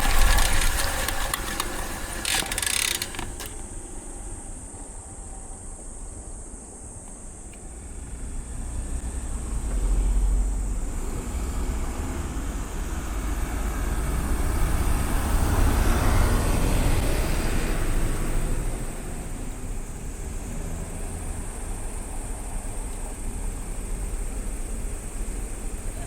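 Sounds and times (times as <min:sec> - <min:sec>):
passing traffic hiss: 0:00.0 - 0:26.0
road traffic rumble: 0:00.0 - 0:26.0.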